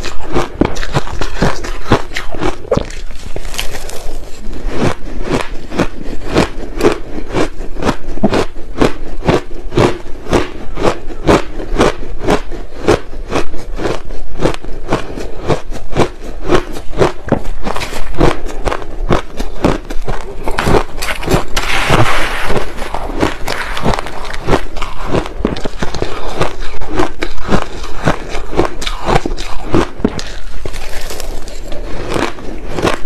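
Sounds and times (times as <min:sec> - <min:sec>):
crushed ice being chewed: 0:00.0 - 0:33.0.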